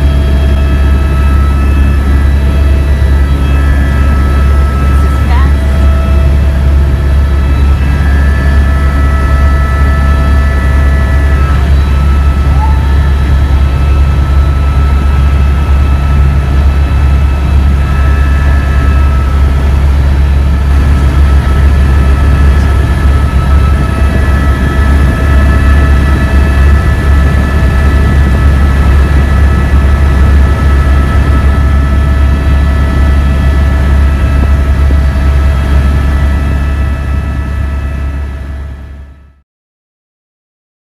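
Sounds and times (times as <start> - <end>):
high whining tones: 0.0 - 39.2
small aircraft drone in cabin: 0.0 - 39.4.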